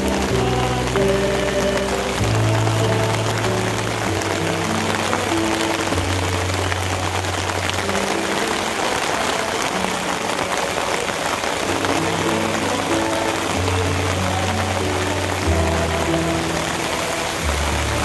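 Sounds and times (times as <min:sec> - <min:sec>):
choir holding low notes: 0:00.0 - 0:18.0
steady rain pouring: 0:00.0 - 0:18.0.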